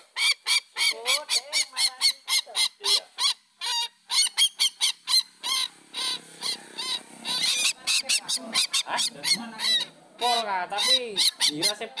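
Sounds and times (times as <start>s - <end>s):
harsh repeated bird calls: 0.0s - 12.0s.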